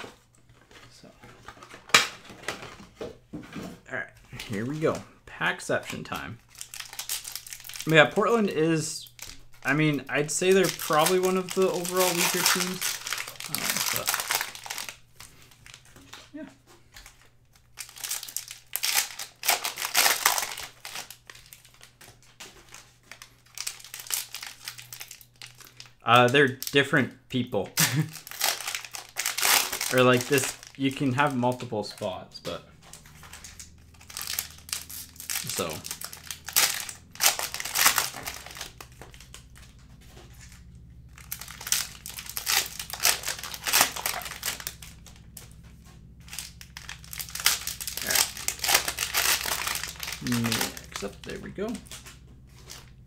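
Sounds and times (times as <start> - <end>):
plastic wrapper crinkling: 5.9 - 26.8, 27.8 - 53.0.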